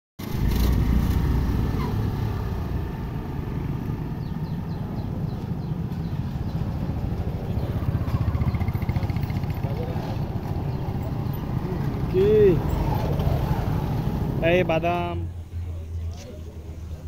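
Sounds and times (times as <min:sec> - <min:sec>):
motorcycle engines rumbling: 0:00.2 - 0:17.0.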